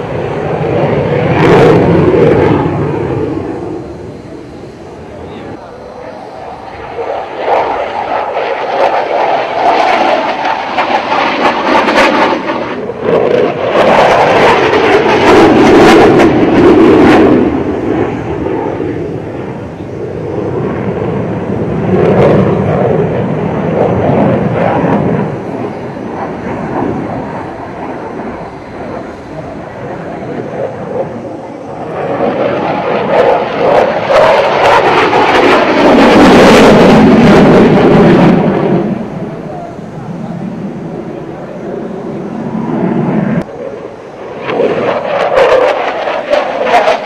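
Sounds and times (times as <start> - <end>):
jet fighter roar: 0.0 - 47.0.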